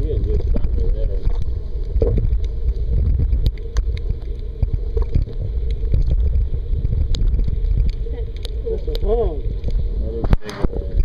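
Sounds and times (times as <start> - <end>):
low underwater rumble: 0.0 - 11.0.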